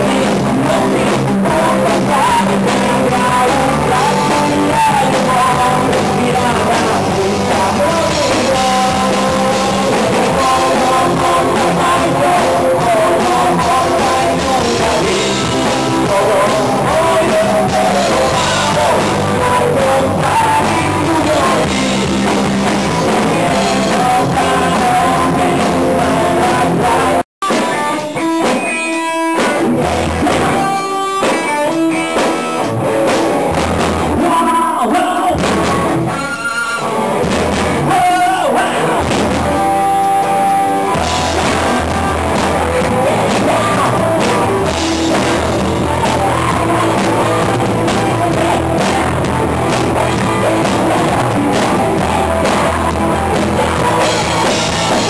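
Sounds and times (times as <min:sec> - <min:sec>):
man singing into a microphone: 0:00.0 - 0:33.1, 0:33.9 - 0:55.0
drums: 0:00.0 - 0:55.0
electric guitar: 0:00.0 - 0:55.0.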